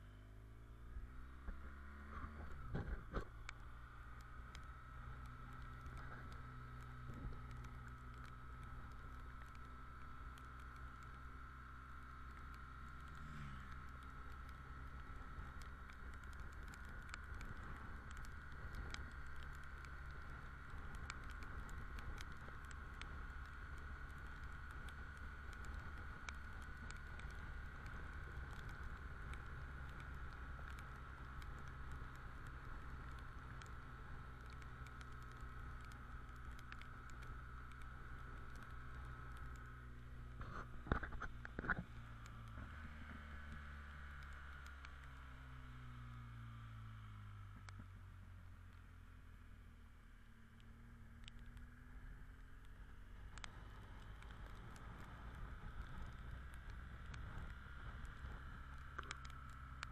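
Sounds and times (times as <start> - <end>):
motorcycle engine hum: 0.0 - 59.9
raindrops ticking on camera: 1.0 - 59.9.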